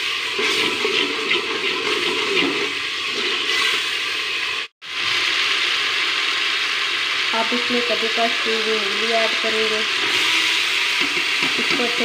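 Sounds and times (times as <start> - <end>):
gravy sizzling in oil: 0.0 - 12.0.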